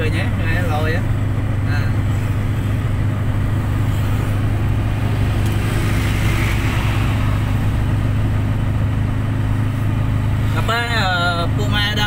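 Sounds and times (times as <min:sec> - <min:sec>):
tyre and wind road noise: 0:00.0 - 0:12.0
vehicle engine hum: 0:00.0 - 0:12.0
truck passing close by: 0:01.0 - 0:11.6.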